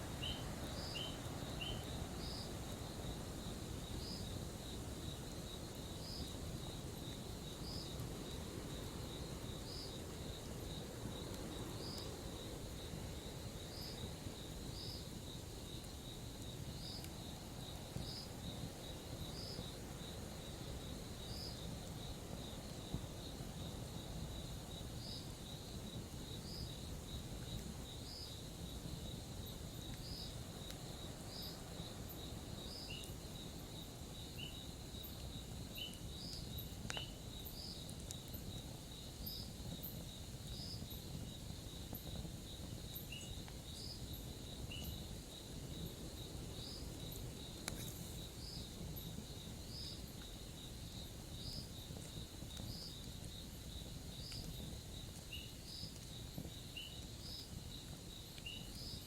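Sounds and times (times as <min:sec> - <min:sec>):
crickets trilling: 0:00.0 - 0:59.0
campfire crackling and popping: 0:01.8 - 0:59.0.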